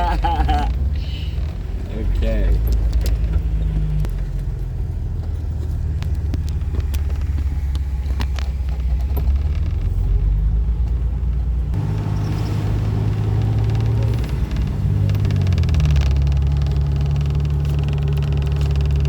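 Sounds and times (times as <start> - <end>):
car engine running: 0.0 - 19.0
road and wind hiss: 0.0 - 19.0.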